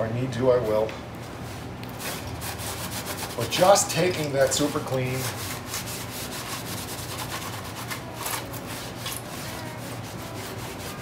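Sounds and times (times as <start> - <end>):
cloth rubbing on metal: 1.4 - 11.0.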